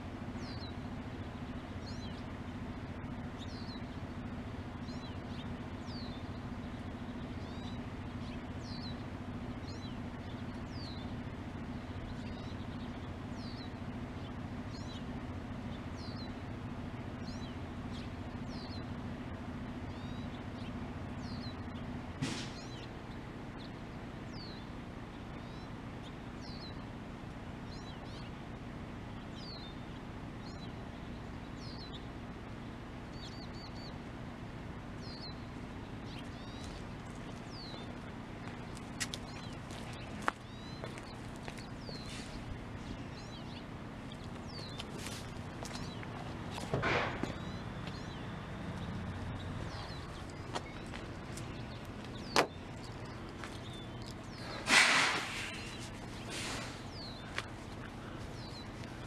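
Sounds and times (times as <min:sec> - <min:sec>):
small bird calling: 0:00.0 - 0:34.2, 0:34.8 - 0:59.0
steady low hum: 0:00.0 - 0:59.0.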